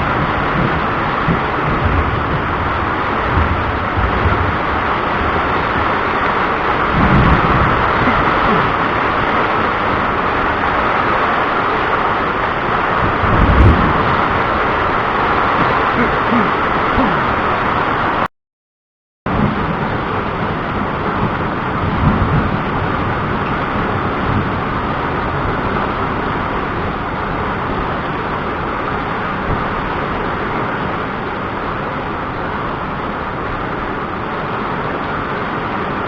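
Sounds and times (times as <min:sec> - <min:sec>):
rain hissing: 0:00.0 - 0:18.3, 0:19.3 - 0:36.0
thunder rumbling: 0:00.0 - 0:18.3, 0:19.3 - 0:36.0.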